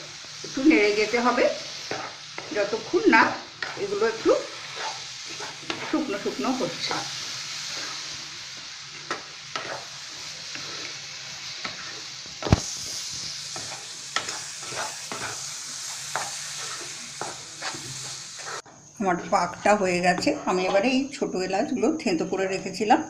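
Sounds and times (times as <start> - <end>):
spatula scraping a pan: 0.0 - 21.0
frying sizzle: 0.0 - 22.8.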